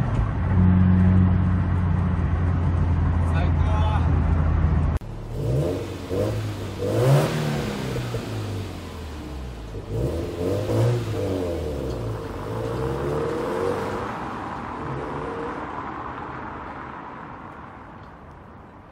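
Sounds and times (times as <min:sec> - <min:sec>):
car engine revving and driving off: 0:00.0 - 0:17.4.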